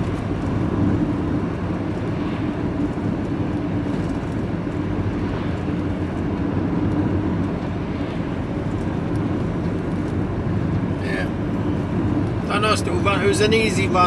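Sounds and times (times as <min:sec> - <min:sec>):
road and tyre noise: 0:00.0 - 0:14.0
vehicle engine drone: 0:00.0 - 0:14.0.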